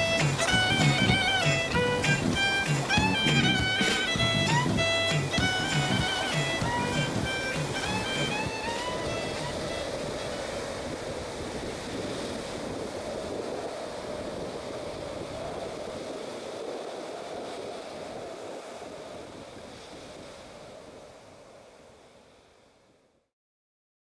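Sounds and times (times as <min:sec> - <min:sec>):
sea surf rushing: 0:00.0 - 0:22.9.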